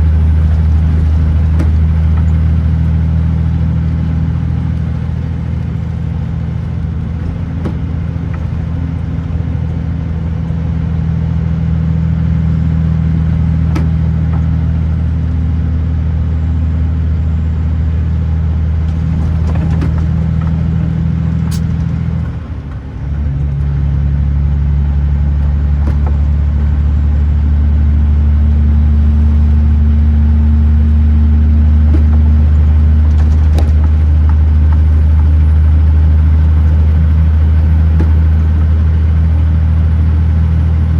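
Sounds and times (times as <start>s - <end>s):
truck diesel engine droning: 0.0s - 40.9s.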